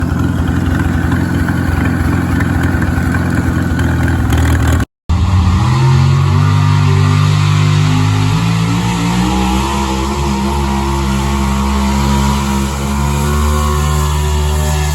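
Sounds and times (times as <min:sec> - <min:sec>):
vehicle engine running hard: 0:00.0 - 0:14.9.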